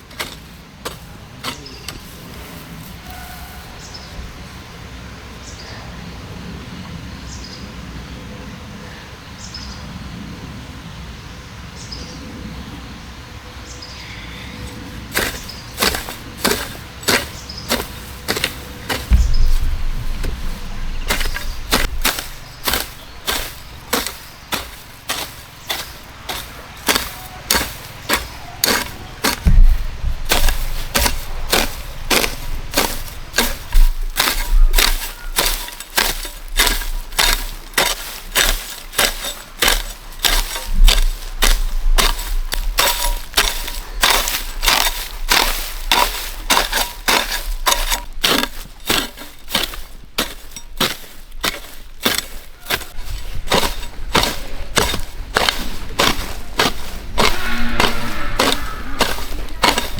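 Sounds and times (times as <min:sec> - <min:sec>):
blade chopping bamboo: 0:00.0 - 0:03.2, 0:15.1 - 0:59.9.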